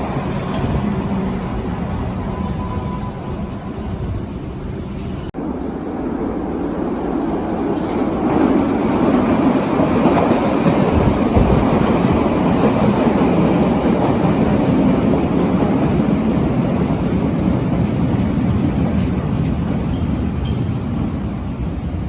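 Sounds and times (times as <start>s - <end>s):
subway train rumbling: 0.0s - 22.0s.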